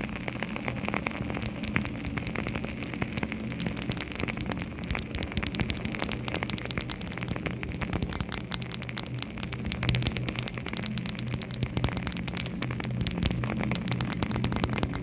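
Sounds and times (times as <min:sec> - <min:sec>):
rapid tapping on small boxes: 0:01.4 - 0:15.0.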